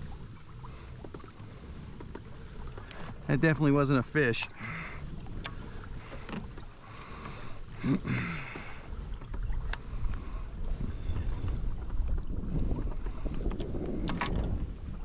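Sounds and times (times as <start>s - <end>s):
water lapping against kayak hull: 0.0s - 15.0s
wind rumbling on microphone: 0.0s - 15.0s.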